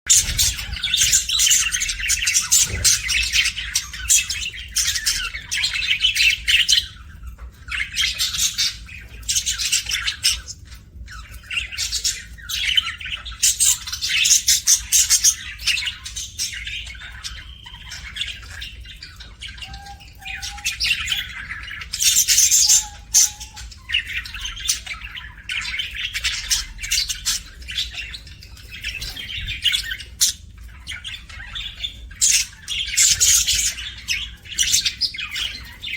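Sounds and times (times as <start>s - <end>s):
budgerigars chattering: 0.1s - 35.9s.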